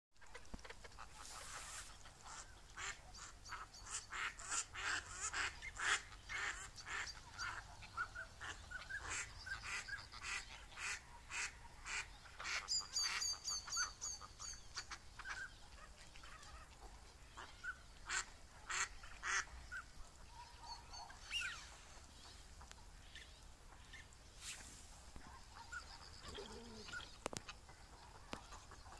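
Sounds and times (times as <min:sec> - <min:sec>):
ducks quacking: 0:00.2 - 0:23.0, 0:25.0 - 0:28.9.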